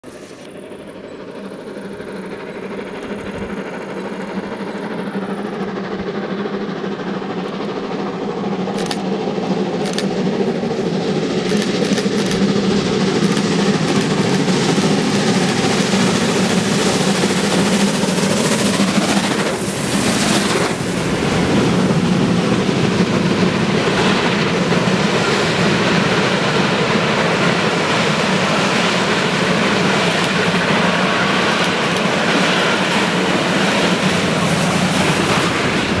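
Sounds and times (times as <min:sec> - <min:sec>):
steam locomotive exhaust: 0:00.0 - 0:36.0
train coaches rumbling: 0:00.0 - 0:36.0.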